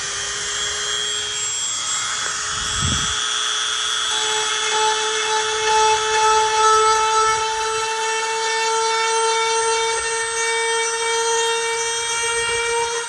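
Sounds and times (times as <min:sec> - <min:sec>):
rotary tool grinding plastic: 0:00.0 - 0:13.0.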